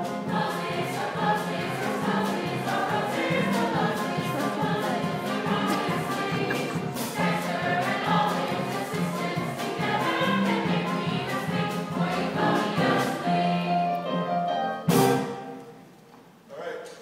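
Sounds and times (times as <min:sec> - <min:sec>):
choir singing music: 0:00.0 - 0:15.8.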